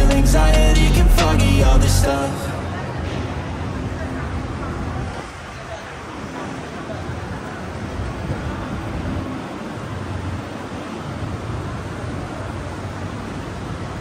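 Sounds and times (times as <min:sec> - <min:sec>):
city street rumble with hiss: 0:00.0 - 0:14.0.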